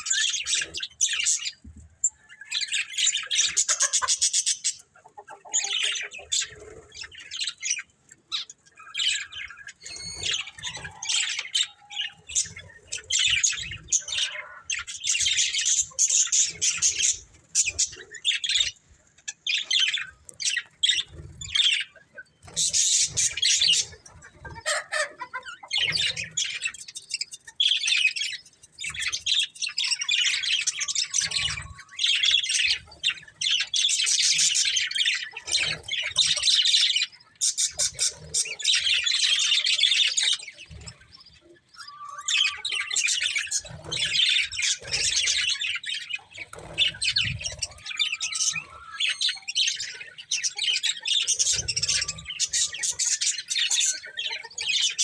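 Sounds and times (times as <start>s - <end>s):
budgerigars chirping: 0.0s - 1.6s, 2.3s - 55.0s.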